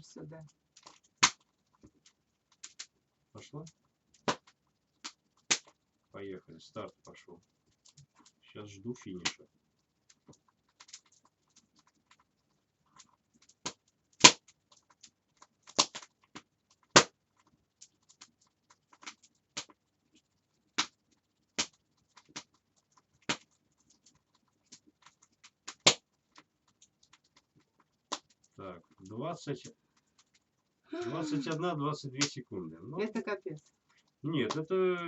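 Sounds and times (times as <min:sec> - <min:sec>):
wood fire crackling in fireplace: 0:00.0 - 0:35.0.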